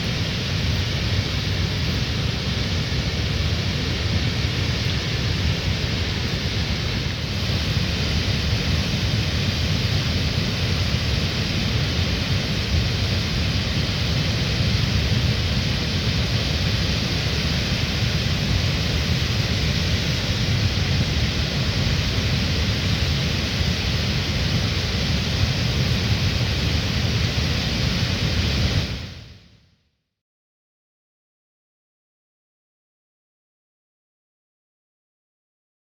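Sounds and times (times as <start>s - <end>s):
waterfall roar: 0.0s - 29.1s.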